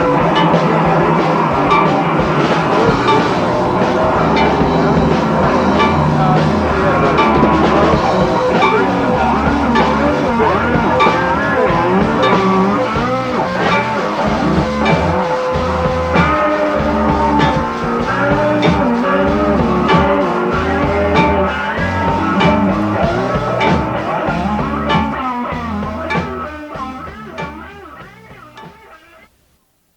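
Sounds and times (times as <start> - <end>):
psychedelic rock music: 0.0 - 29.3.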